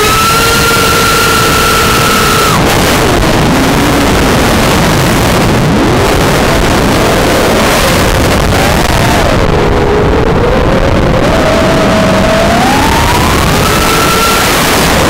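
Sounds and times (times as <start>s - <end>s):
drone motors whining: 0.0s - 15.0s
wind rush on microphone: 0.0s - 15.0s.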